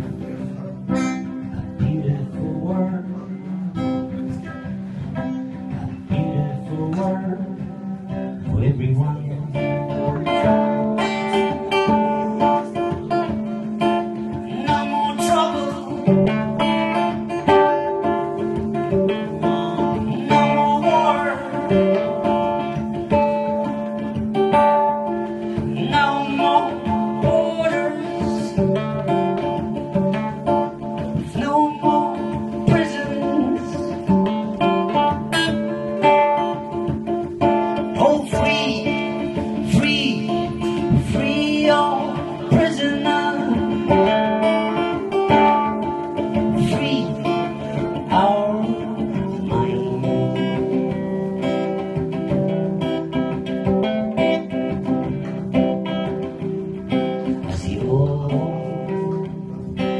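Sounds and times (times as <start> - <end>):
acoustic guitar strumming: 0.0 - 59.9
man singing into a microphone: 0.0 - 59.9.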